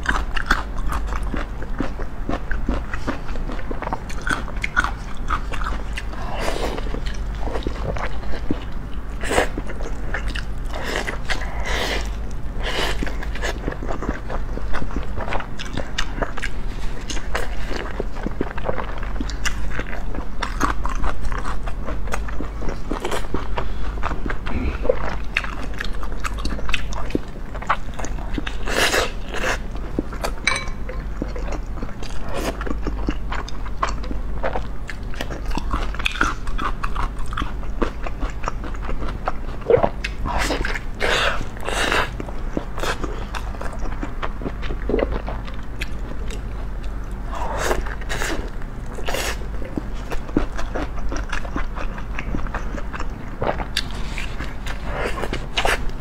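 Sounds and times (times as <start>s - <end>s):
biting and wet chewing: 0.0s - 56.0s
steady low hum: 0.0s - 56.0s.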